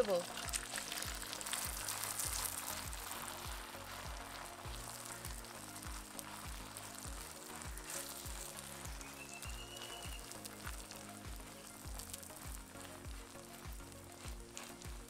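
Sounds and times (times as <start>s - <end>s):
paratha sizzling in oil: 0.0s - 15.0s.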